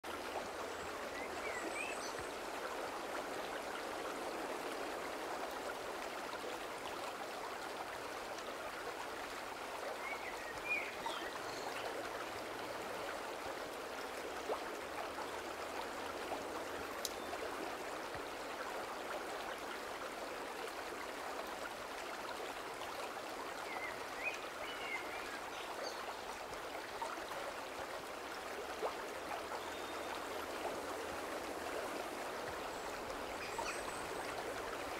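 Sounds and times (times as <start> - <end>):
stream rushing over stones: 0.0 - 34.9.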